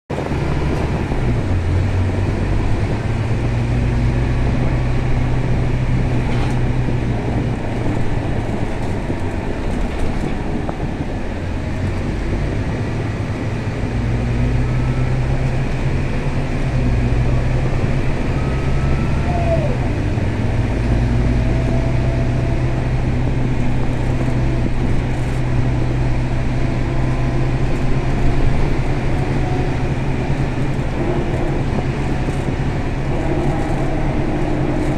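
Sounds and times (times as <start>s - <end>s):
bus diesel engine drone: 0.1s - 34.9s.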